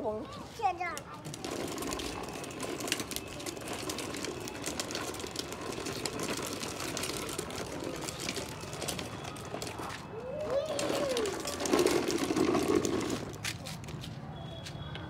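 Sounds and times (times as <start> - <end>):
plastic wheels rolling on concrete: 0.0 - 15.0.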